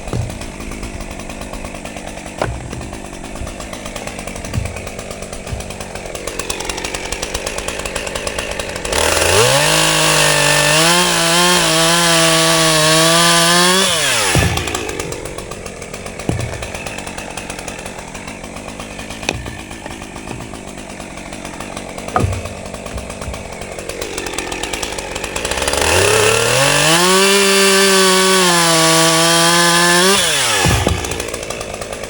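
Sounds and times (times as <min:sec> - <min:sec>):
chainsaw cutting log: 0:00.0 - 0:32.0
chainsaw idling and revving: 0:00.0 - 0:32.0.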